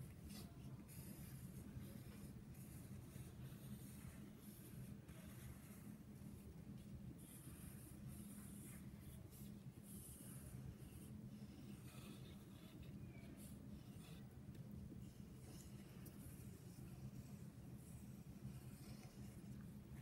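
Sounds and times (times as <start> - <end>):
pencil scratching on paper: 0.0 - 20.0
steady low hum: 0.0 - 20.0.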